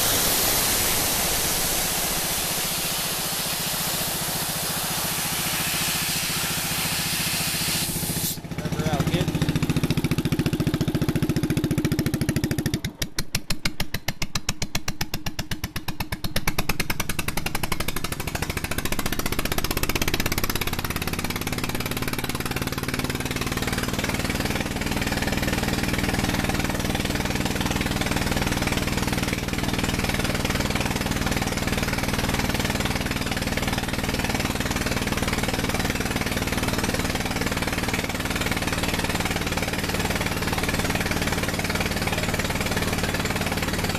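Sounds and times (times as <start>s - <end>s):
engine running compressor pump: 0.0s - 43.9s.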